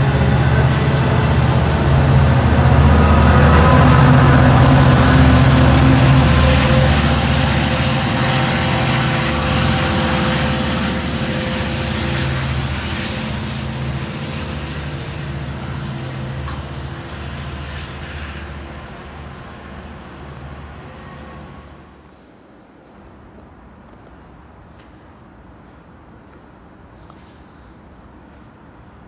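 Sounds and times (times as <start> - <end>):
train humming and rushing: 0.0 - 29.0.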